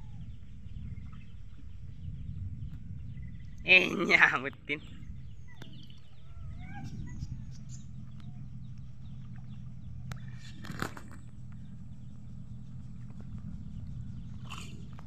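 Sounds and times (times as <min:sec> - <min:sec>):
small boat engine humming: 0:00.0 - 0:15.0.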